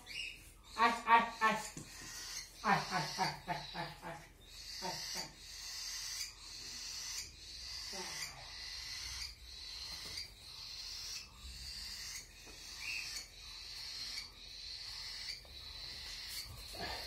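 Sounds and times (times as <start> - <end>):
baby birds raspy begging calls: 0.0 - 17.0.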